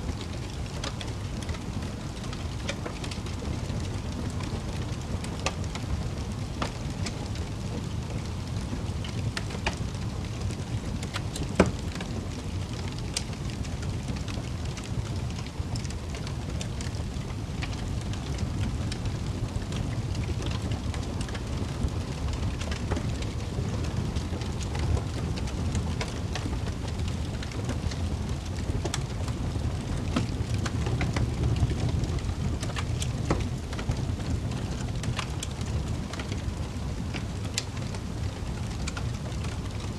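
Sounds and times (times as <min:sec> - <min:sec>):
wood fire crackling: 0:00.0 - 0:39.9
fire snaps and pops: 0:00.1 - 0:39.9.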